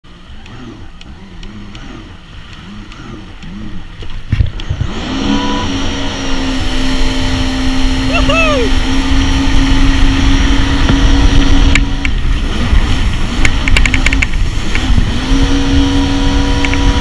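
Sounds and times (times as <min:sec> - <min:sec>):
jet ski engine revving: 0:00.1 - 0:17.0.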